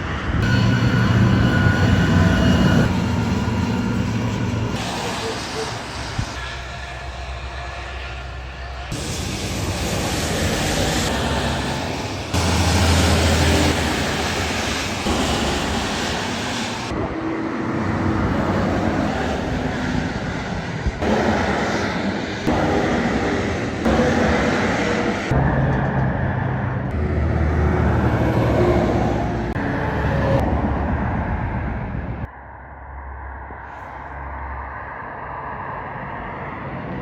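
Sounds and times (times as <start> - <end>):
trucks driving past: 0.0 - 32.3.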